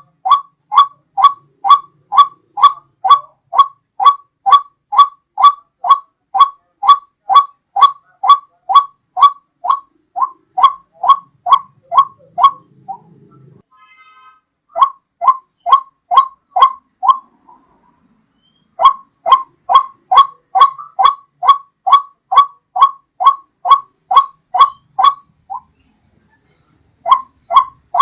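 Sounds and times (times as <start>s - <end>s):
waterhen call: 0.0s - 13.5s, 14.7s - 17.8s, 18.5s - 25.7s, 27.0s - 28.0s.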